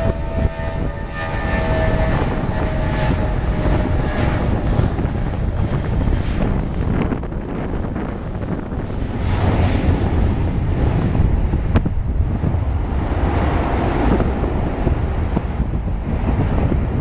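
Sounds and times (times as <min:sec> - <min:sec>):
jet engine roar: 0:00.0 - 0:17.0
wind buffeting microphone: 0:00.0 - 0:17.0.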